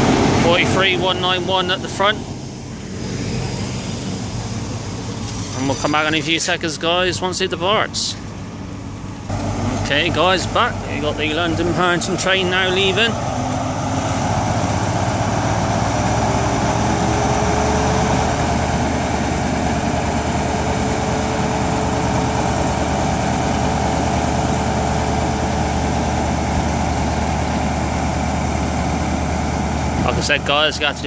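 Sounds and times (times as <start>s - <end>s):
diesel train engine droning: 0.0s - 31.0s.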